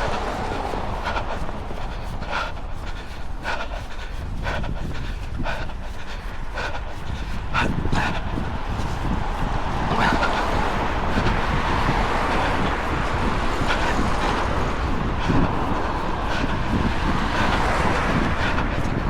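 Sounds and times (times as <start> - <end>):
road traffic rushing: 0.0 - 19.0
wind buffeting microphone: 0.0 - 19.0.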